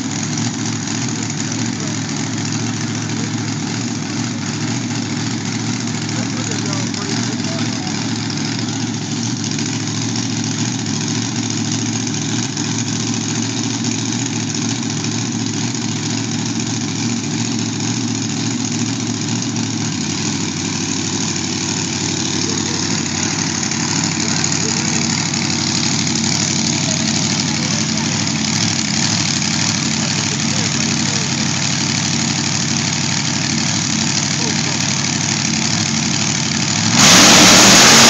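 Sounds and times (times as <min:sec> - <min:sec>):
racing car engine idling: 0:00.0 - 0:38.0.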